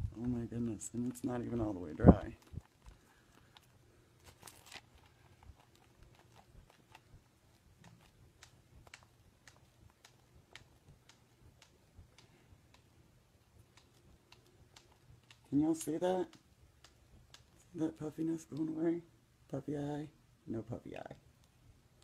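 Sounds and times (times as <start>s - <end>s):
faint small clicks and ticks: 0.0s - 18.9s.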